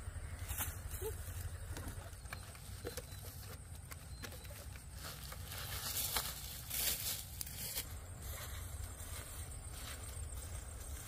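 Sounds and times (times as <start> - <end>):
rustling of grass and vines: 0.0 - 11.0.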